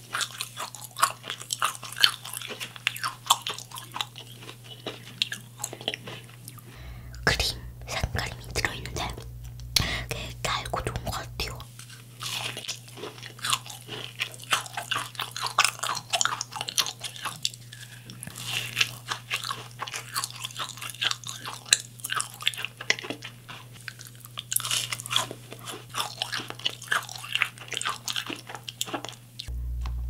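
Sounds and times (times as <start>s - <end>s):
person chewing crunchy food: 0.0s - 29.5s.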